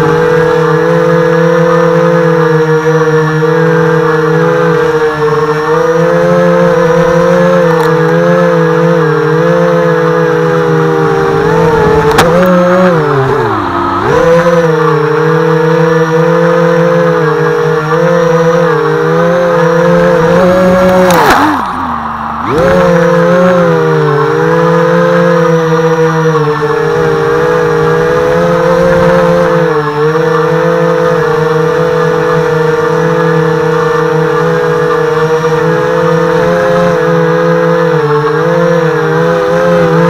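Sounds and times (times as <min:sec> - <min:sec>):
quadcopter motors whining: 0:00.0 - 0:40.0.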